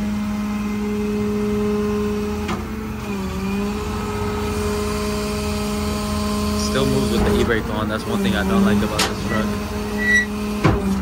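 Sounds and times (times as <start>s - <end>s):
diesel truck engine running: 0.0s - 11.0s
hydraulic whine: 0.0s - 11.0s.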